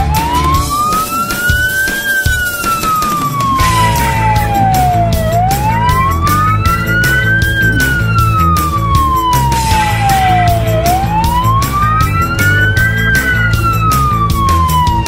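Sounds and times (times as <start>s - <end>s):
fire engine wail siren: 0.0s - 15.0s
music with beat and bass: 0.0s - 15.0s.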